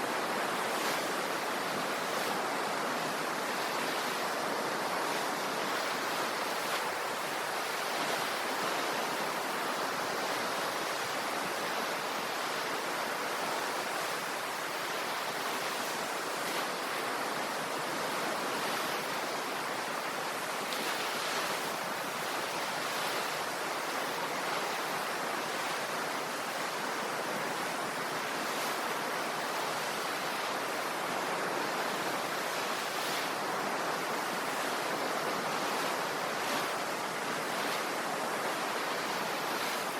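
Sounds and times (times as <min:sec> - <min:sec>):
ocean surf washing on shore: 0:00.0 - 0:39.9.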